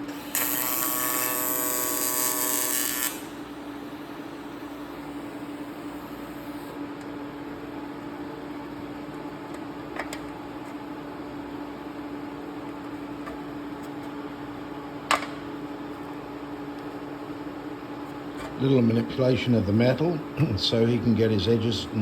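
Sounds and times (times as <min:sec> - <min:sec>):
machine hum with low tone: 0:00.0 - 0:22.0.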